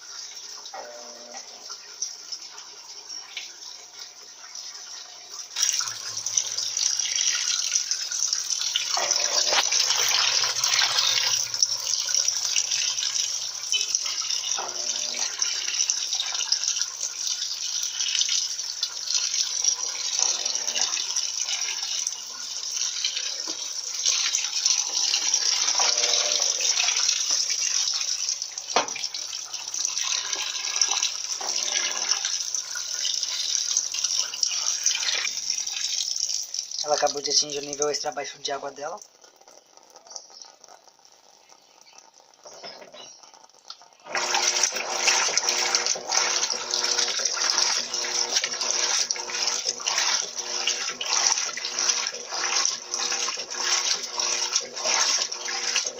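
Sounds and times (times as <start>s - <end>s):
washing machine filling with water: 0.0s - 55.9s.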